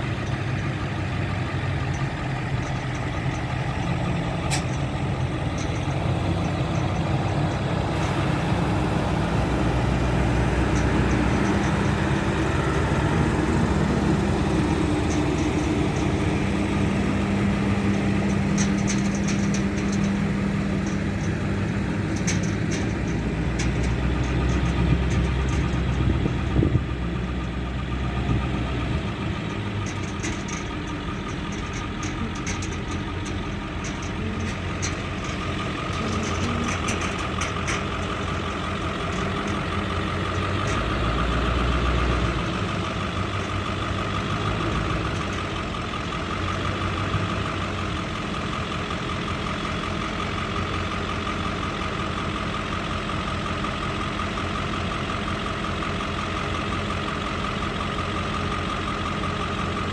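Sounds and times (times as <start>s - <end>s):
harvester engine running: 0.0s - 59.9s.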